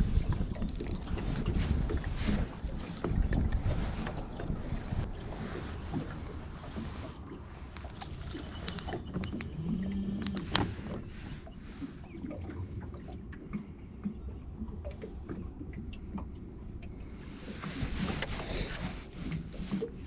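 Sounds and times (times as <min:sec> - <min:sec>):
boat creaking: 0:00.0 - 0:20.0
low rumble of wind and water: 0:00.0 - 0:20.0.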